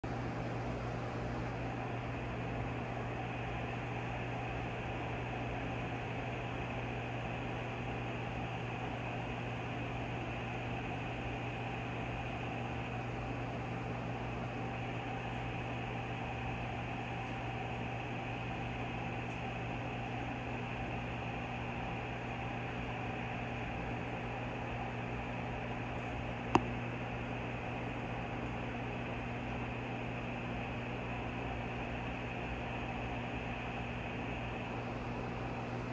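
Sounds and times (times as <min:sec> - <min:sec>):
aquarium equipment humming: 0:00.0 - 0:35.9.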